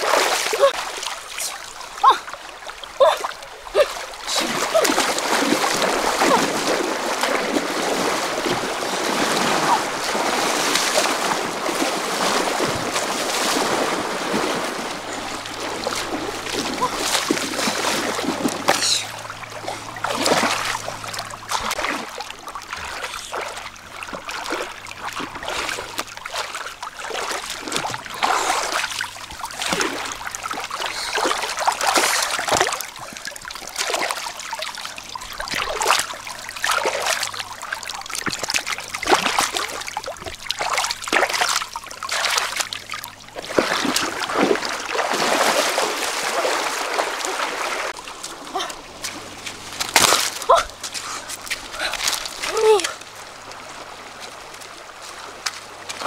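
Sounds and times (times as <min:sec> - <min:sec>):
feet splashing in shallows: 0:00.0 - 0:56.0
hands splashing river water: 0:00.0 - 0:56.0
river water trickling: 0:00.0 - 0:56.0.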